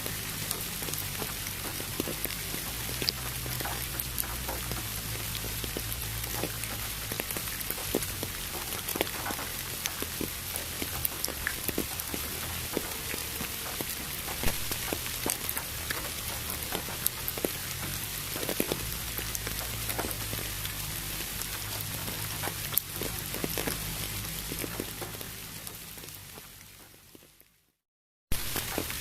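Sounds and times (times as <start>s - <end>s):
pink noise: 0.0s - 26.3s, 28.3s - 29.0s
rain drops hitting: 0.0s - 27.7s, 28.3s - 29.0s.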